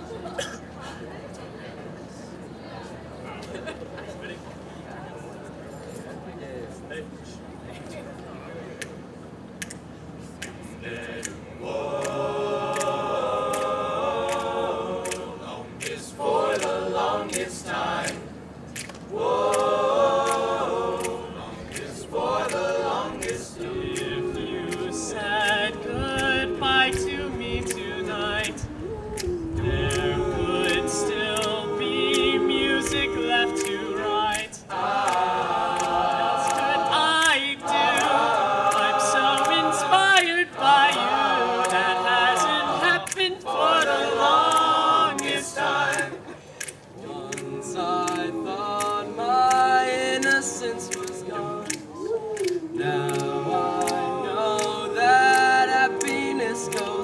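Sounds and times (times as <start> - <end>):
a cappella group singing: 10.7 - 57.0.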